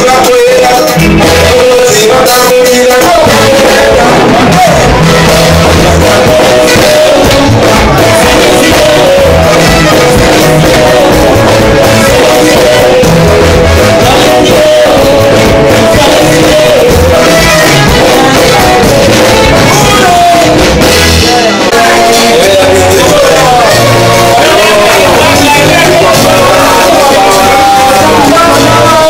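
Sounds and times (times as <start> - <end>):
drums: 0.0 - 29.0
electric guitar: 0.0 - 29.0
keyboard: 0.0 - 29.0
man singing into microphone: 0.0 - 29.0.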